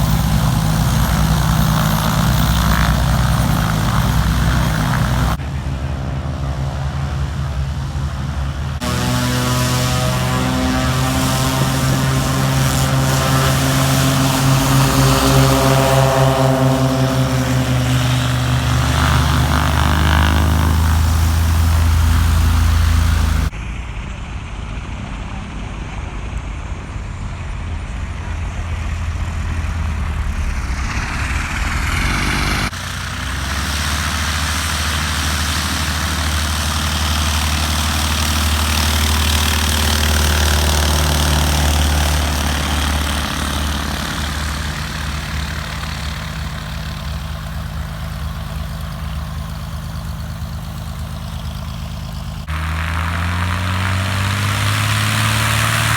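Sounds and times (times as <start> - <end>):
propeller aircraft engine droning: 0.0 - 55.9.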